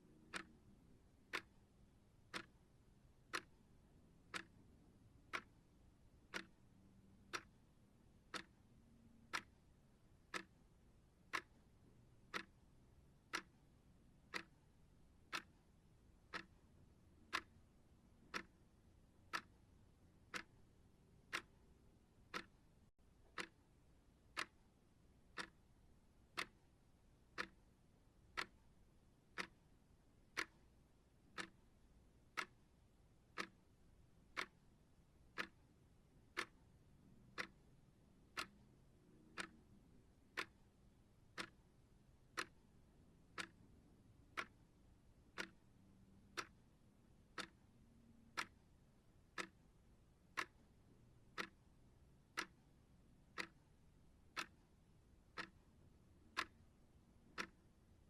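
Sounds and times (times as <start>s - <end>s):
timer ticking: 0.0s - 58.0s.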